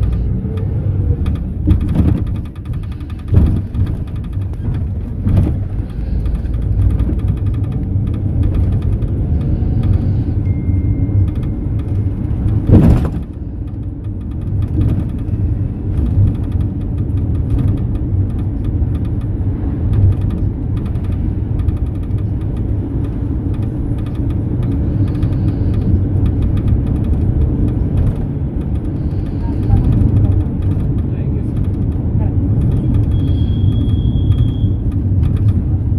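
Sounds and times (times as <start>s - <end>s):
engine and road rumble: 0.0s - 35.9s
vehicle jolt: 0.0s - 35.9s.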